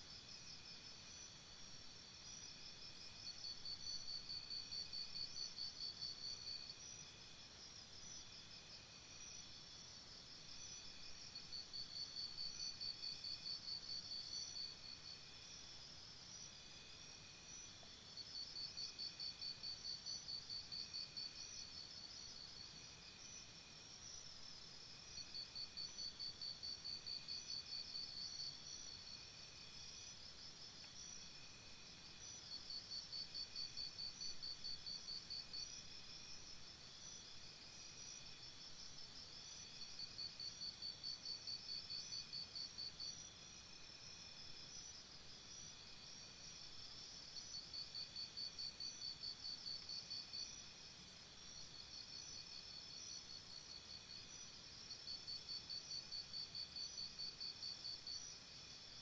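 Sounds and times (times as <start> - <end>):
insect chirping: 0.0 - 59.0.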